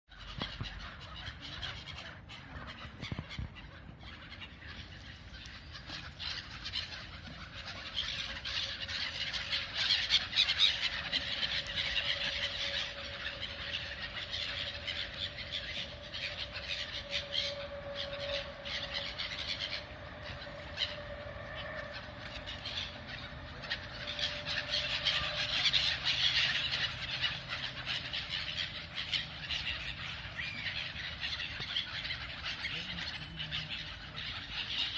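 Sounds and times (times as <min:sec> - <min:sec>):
birds squealing and squabbling: 0:00.1 - 0:34.9.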